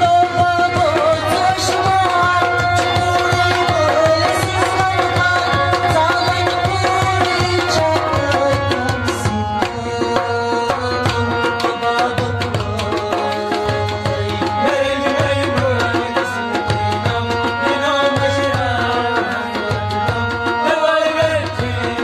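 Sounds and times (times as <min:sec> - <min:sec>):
harmonium sustained notes: 0:00.0 - 0:22.0.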